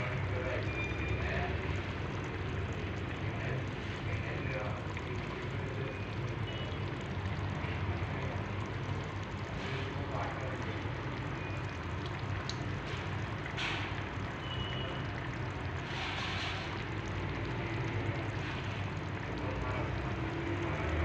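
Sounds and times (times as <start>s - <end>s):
stew bubbling: 0.0s - 21.0s.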